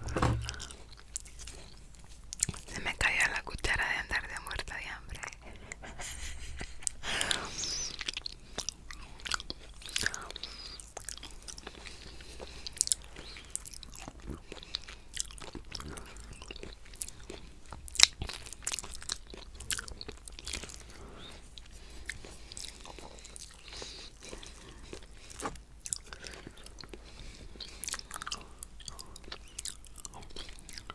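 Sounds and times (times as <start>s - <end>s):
person chewing with wet clicks: 0.5s - 5.4s, 6.8s - 30.9s.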